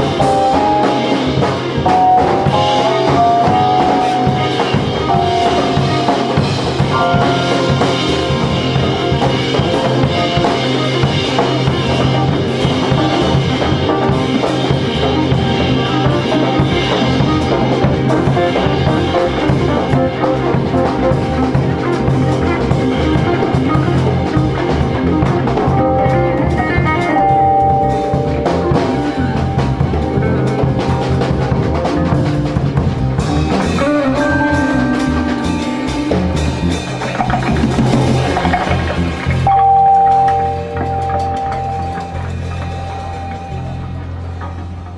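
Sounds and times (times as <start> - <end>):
drum kit beat: 0.0 - 44.9
guitar: 0.0 - 44.9
held instrumental notes: 0.0 - 44.9.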